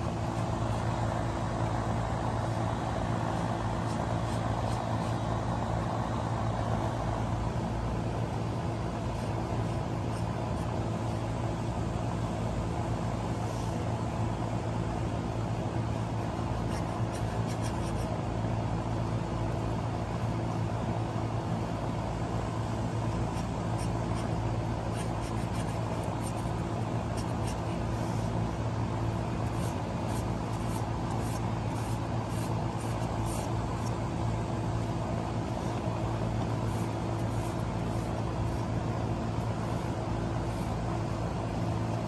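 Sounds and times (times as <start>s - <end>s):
steady low mechanical hum: 0.0s - 42.0s.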